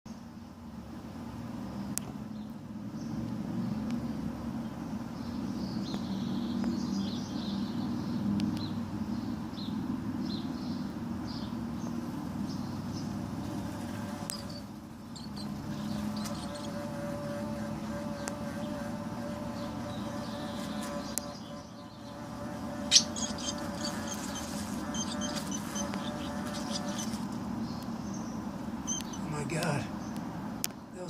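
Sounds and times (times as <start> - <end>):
small birds chirping: 4.6 - 31.0.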